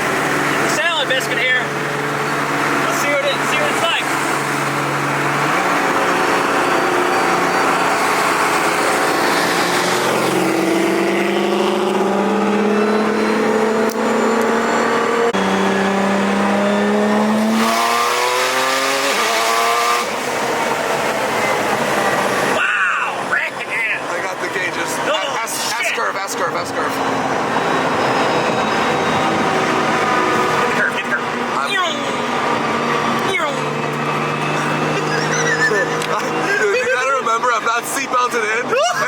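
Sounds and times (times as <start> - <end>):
car engine revving hard: 0.0 - 22.6, 23.2 - 38.6.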